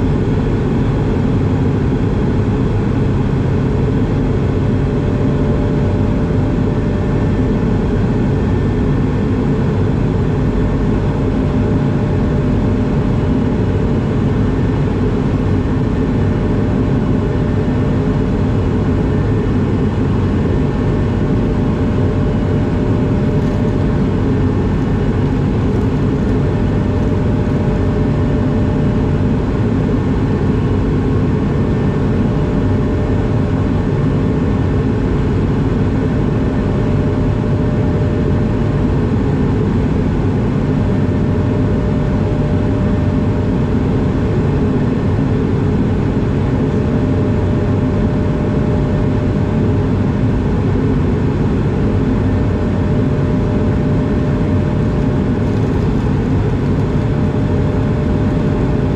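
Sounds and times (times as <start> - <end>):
airplane cabin engine drone: 0.0 - 58.9.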